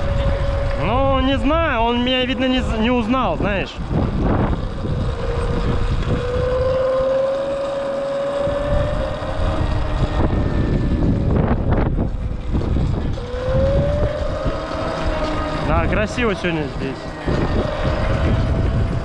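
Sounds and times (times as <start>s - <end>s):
electric motor whine: 0.0s - 19.0s
wind buffeting microphone: 0.0s - 19.0s.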